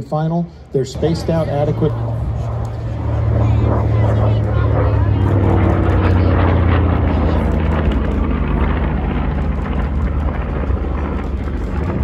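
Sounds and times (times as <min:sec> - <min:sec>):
propeller aircraft passing overhead: 0:00.0 - 0:12.0.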